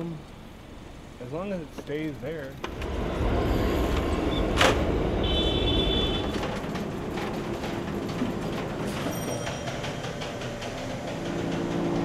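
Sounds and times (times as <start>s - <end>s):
bicycle rolling on street: 1.8s - 12.0s.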